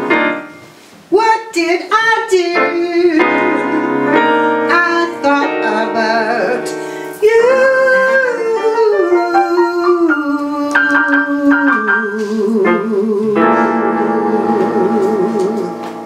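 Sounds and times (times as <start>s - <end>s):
piano accompaniment: 0.0s - 16.0s
woman singing with vibrato: 1.1s - 16.0s.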